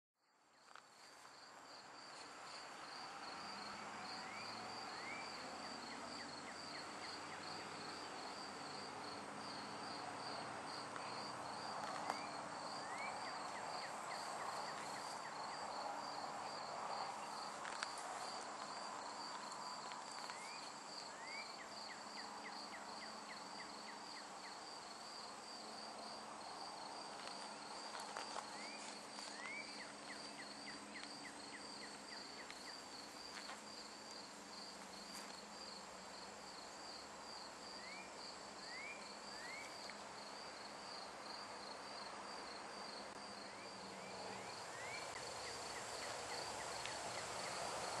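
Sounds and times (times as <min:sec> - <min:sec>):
insects chirping: 0:00.2 - 0:48.0.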